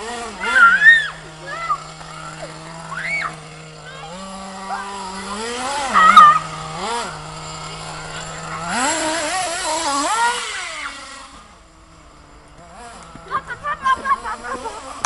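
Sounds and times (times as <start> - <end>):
model car motor buzzing and revving: 0.0 - 15.0.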